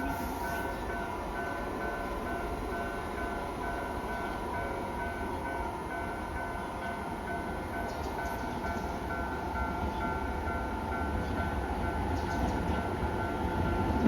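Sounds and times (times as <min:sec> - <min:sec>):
electric train rumbling past: 0:00.0 - 0:14.0.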